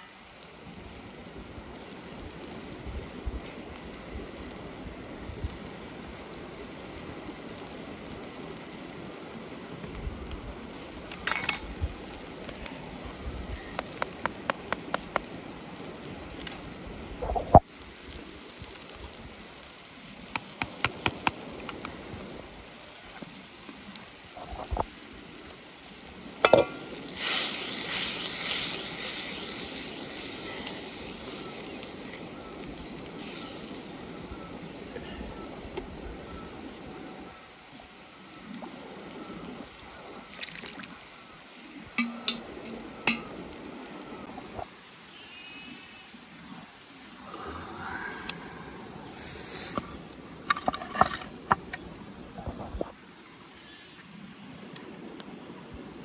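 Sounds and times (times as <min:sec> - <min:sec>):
loud hissing sizzle: 0:00.0 - 0:56.0.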